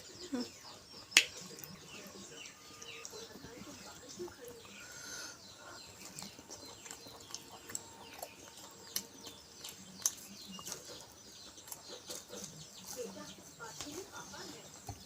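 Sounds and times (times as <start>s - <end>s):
birds chirping faintly: 0.0s - 15.0s
chewing and food handling: 0.0s - 15.0s.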